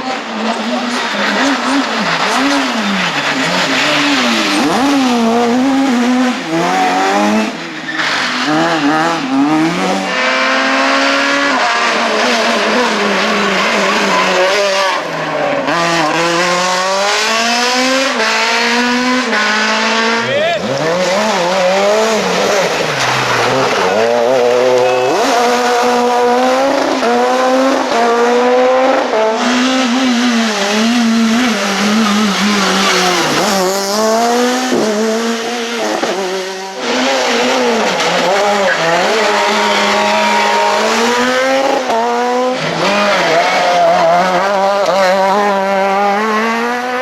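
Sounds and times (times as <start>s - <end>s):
rally car engine revving: 0.0s - 47.0s.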